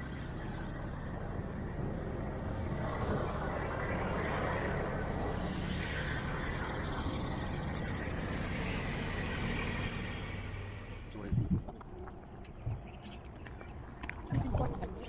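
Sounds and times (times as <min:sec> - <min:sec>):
vehicle road noise: 0:00.0 - 0:15.0.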